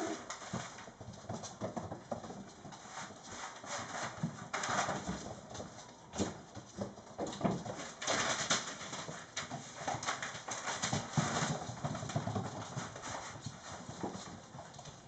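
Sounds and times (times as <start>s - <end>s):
puppies paws clicking on wooden floor: 0.0s - 15.0s.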